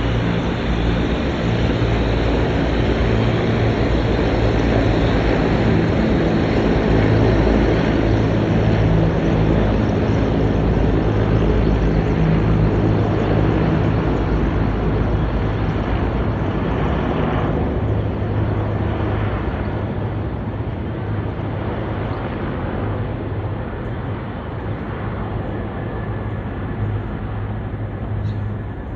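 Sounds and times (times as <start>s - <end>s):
helicopter flying overhead: 0.0s - 28.9s.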